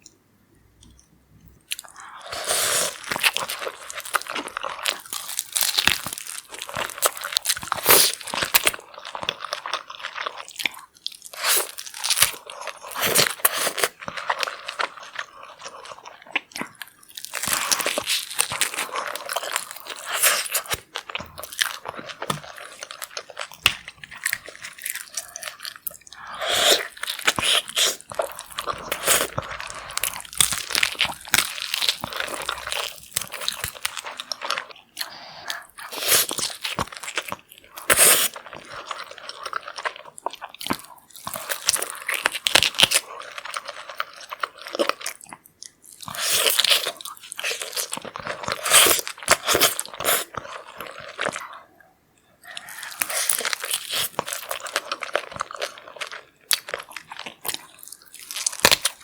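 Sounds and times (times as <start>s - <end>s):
person crunching and chewing food: 0.8s - 59.0s.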